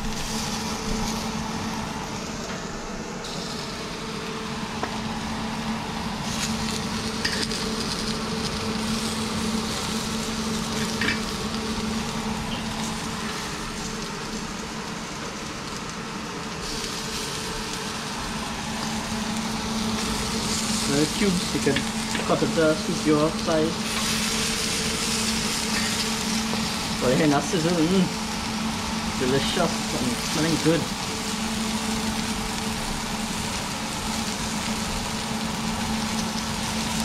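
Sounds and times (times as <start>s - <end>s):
fish sizzling on grill pan: 0.0s - 37.0s.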